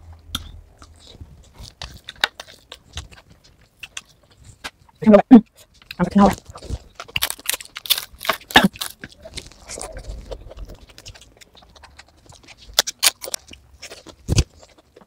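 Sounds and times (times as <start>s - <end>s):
chewing crunches: 0.3s - 15.0s.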